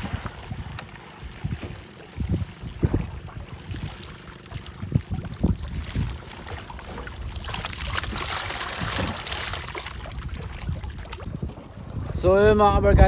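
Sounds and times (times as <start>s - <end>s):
water pouring and splashing: 0.0s - 11.6s.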